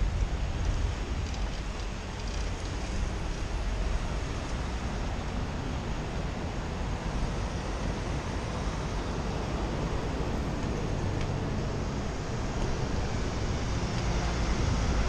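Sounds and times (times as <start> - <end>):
city road traffic: 0.0 - 15.0
wind rumbling on microphone: 0.0 - 15.0.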